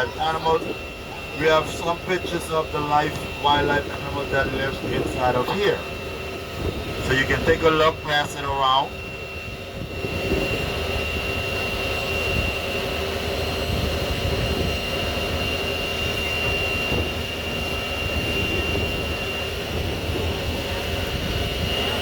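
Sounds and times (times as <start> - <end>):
boat engine rumbling with whine: 0.0 - 22.0.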